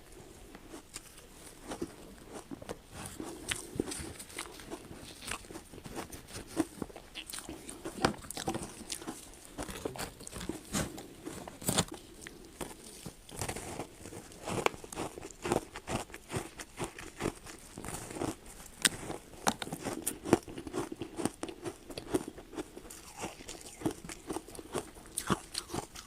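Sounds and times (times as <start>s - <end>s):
ice crunching between teeth: 0.7s - 26.0s.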